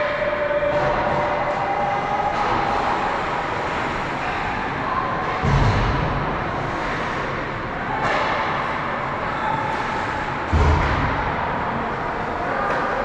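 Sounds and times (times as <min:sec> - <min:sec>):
ice hockey game noise: 0:00.0 - 0:13.0.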